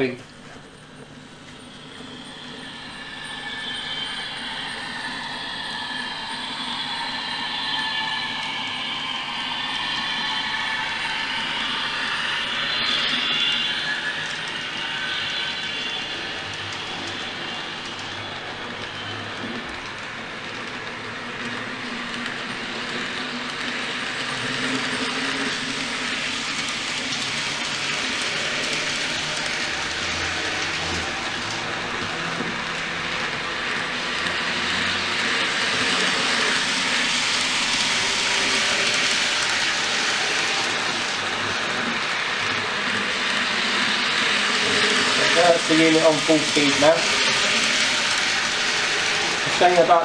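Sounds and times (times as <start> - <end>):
model train wheels on track: 0.0 - 50.0
electric traction motor sounds: 0.9 - 50.0.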